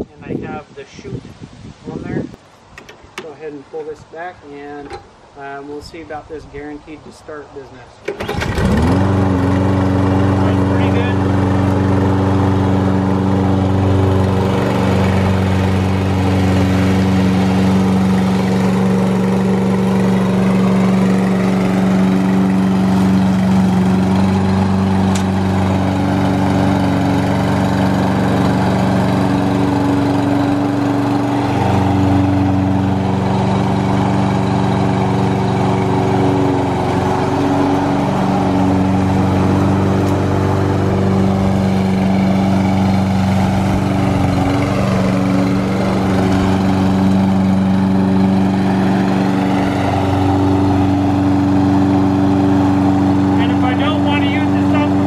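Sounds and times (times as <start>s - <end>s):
lawn mower engine running: 8.0s - 55.0s.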